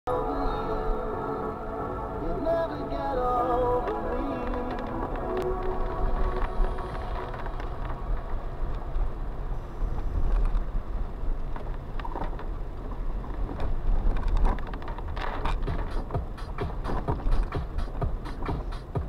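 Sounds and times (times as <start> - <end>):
car road rumble: 0.1 - 19.0.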